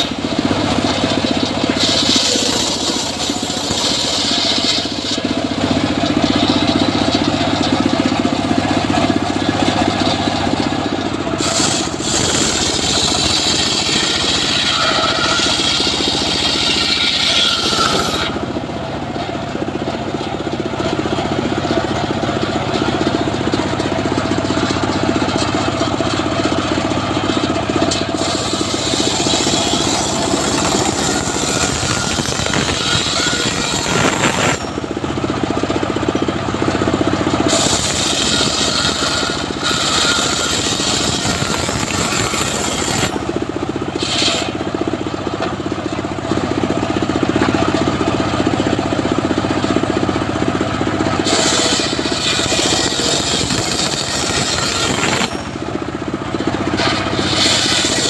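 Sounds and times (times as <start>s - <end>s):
engine running steadily: 0.0s - 58.0s
saw blade cutting wood: 0.0s - 58.0s.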